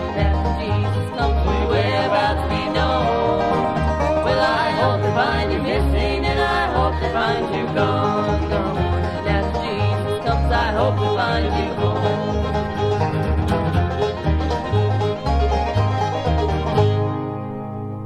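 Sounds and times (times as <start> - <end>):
acoustic guitar: 0.0 - 18.0
banjo rolls: 0.0 - 18.0
sliding lead notes: 0.0 - 18.0
upright bass line: 0.0 - 18.0.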